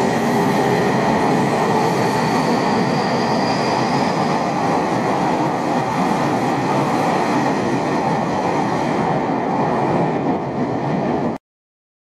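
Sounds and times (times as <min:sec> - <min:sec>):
electric train rumbling: 0:00.0 - 0:11.4.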